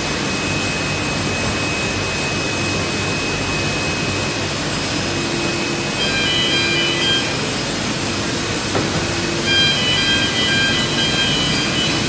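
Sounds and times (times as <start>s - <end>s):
high steady whine: 0.0s - 12.0s
printing press hiss and hum: 0.0s - 12.0s.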